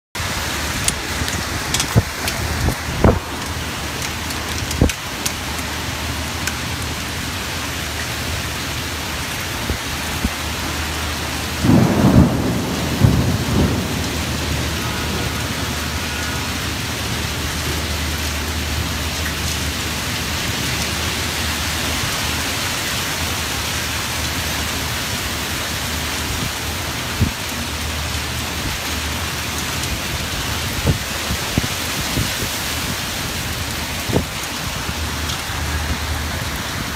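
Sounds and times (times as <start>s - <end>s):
heavy rain: 0.2s - 36.9s
wind: 0.2s - 36.9s.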